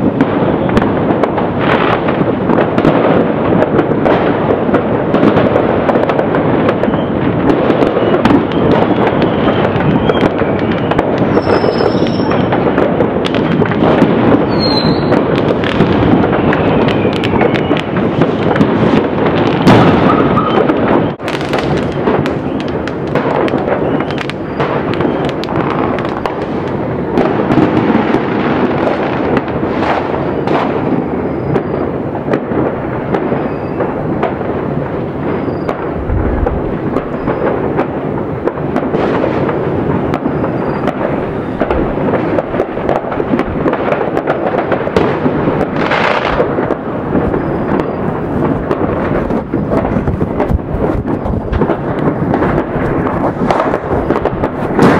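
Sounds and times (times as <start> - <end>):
distant fireworks booming: 0.0 - 54.9
firework bangs and crackles: 0.0 - 54.9.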